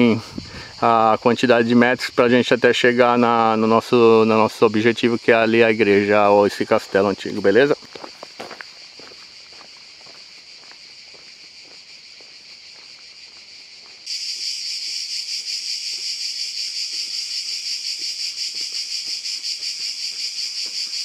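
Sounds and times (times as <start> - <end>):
insects pulsing buzz: 0.0 - 21.0.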